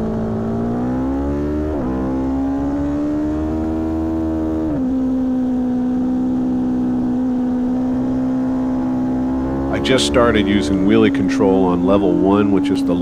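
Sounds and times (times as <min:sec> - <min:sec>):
motorcycle engine accelerating hard: 0:00.0 - 0:13.0.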